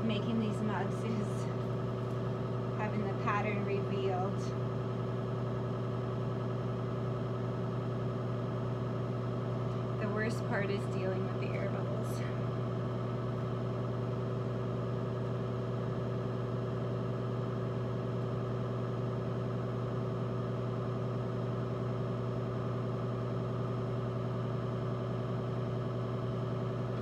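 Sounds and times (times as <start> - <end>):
potter's wheel motor humming: 0.0 - 27.0.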